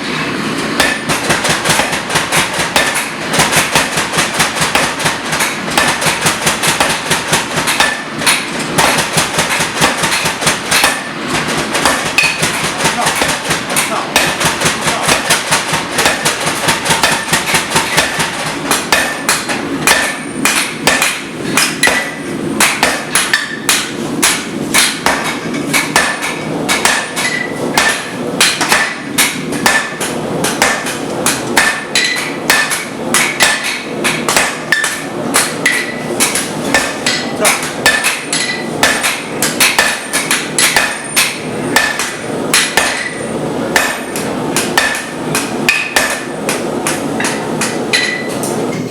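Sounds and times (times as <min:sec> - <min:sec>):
hammer striking metal on anvil: 0:00.8 - 0:48.9.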